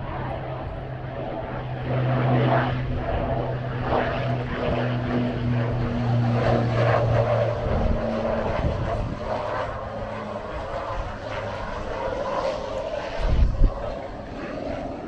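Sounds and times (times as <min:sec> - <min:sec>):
helicopter turbine and rotor noise: 0:00.0 - 0:15.0
low hum: 0:00.0 - 0:15.0.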